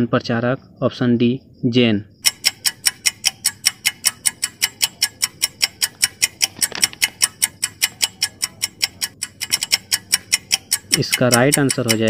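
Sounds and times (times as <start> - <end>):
clock ticking: 2.1 - 12.0.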